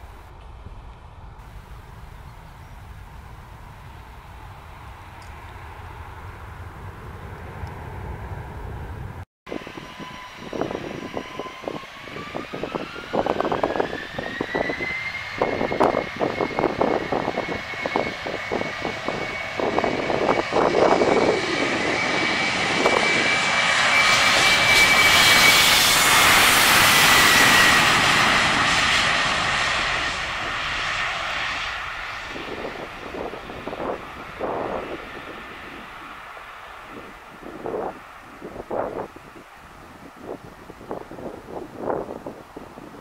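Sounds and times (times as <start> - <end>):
jet engines whining: 1.4 - 43.0.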